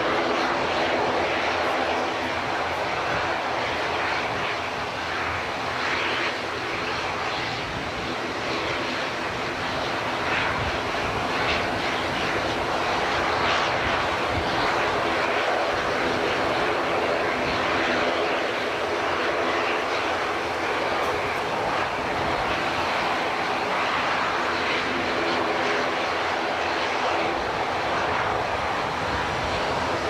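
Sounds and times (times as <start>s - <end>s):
jet engines at takeoff power: 0.0s - 30.0s.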